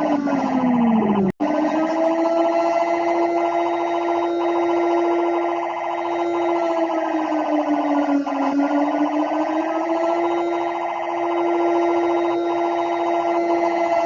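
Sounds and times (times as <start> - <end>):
steady siren tone: 0.0 - 14.0.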